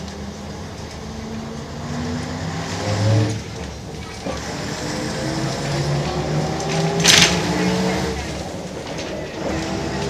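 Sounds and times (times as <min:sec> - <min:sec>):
bus diesel engine under load: 0:00.0 - 0:10.0.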